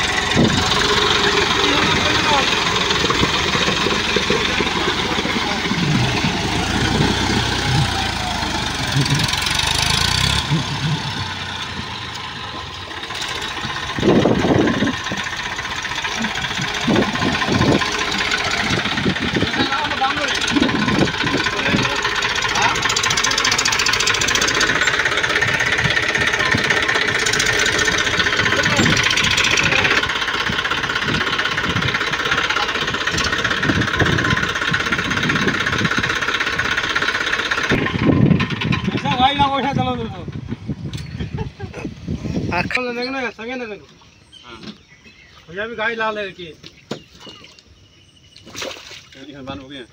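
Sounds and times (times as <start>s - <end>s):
tractor diesel engine running: 0.0s - 48.4s.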